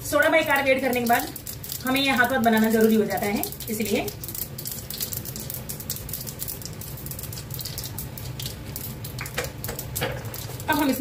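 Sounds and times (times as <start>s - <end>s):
seeds spluttering in hot oil: 0.0s - 11.0s.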